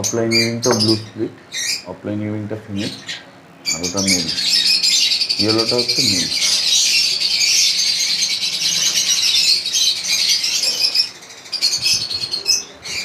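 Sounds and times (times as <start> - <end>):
lovebirds chattering and chirping: 0.0 - 13.0.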